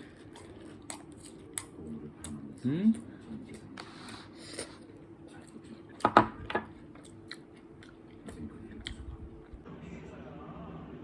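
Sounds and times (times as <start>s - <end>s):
person chewing crunchy food: 0.0s - 9.6s.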